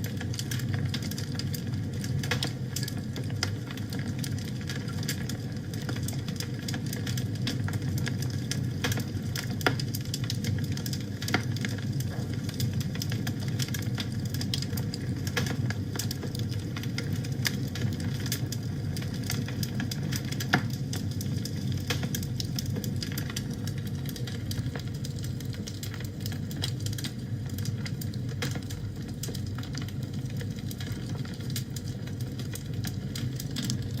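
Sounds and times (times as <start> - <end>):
fire popping: 0.0 - 34.0
fire rumble: 0.0 - 34.0
wood fire crackling: 0.0 - 34.0.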